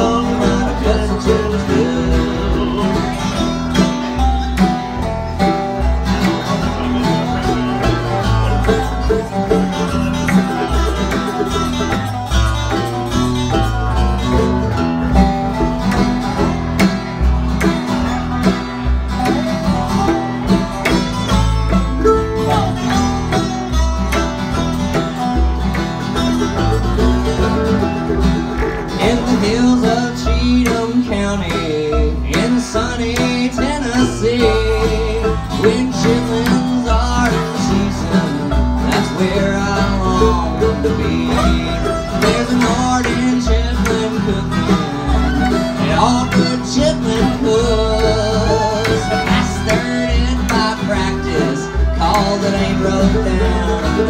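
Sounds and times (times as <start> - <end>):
live bluegrass band: 0.0 - 54.0.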